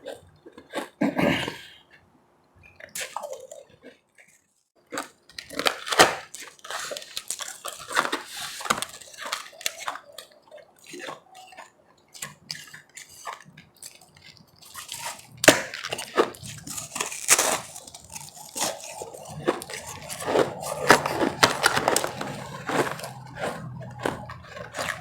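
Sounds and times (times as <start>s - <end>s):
ice being chewed: 0.0s - 1.0s, 2.6s - 25.0s.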